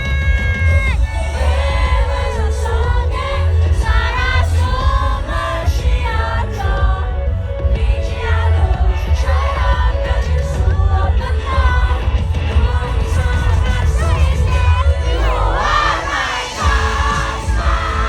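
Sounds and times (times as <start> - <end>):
heavy bass beat: 0.0 - 18.0.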